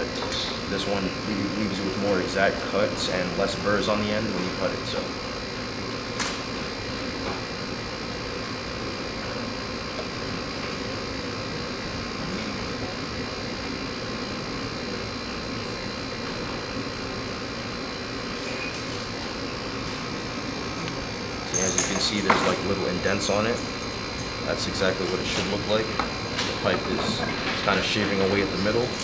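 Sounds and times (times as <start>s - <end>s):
room ventilation hum: 0.0s - 29.0s.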